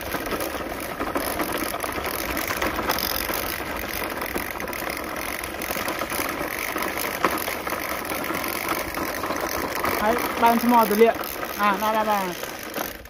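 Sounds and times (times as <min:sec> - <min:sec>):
toy car motor whirring: 0:00.0 - 0:13.0.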